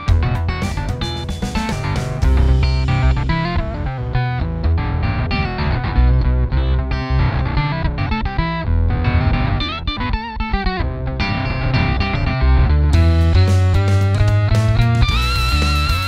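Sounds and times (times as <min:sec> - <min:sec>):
electric guitar with octave effect: 0:00.0 - 0:16.0.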